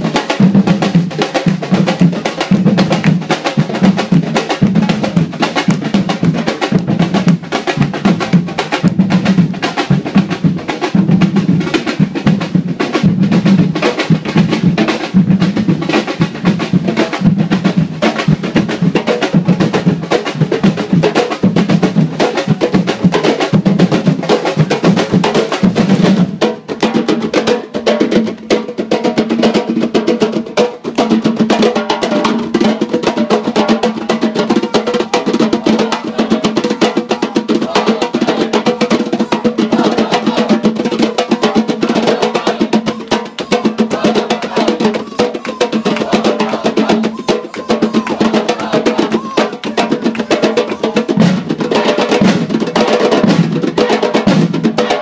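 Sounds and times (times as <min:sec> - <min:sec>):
bass drums: 0:00.0 - 0:28.8, 0:29.4 - 0:55.0
drum band playing: 0:00.0 - 0:55.0
hand drums: 0:00.0 - 0:55.0
snare drums: 0:00.0 - 0:55.0.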